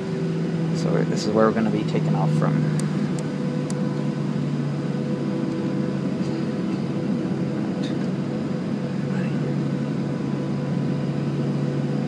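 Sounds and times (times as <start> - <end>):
jet engines humming in cabin: 0.0 - 12.0.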